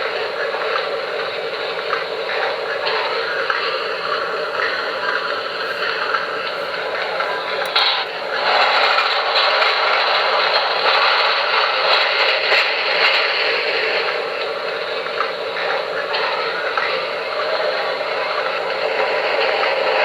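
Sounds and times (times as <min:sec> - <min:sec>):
locomotive sound effect through speaker: 0:00.0 - 0:20.0.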